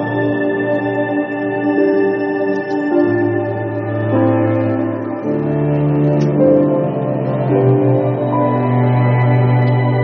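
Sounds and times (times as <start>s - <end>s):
sustained keyboard chords: 0.0s - 10.0s.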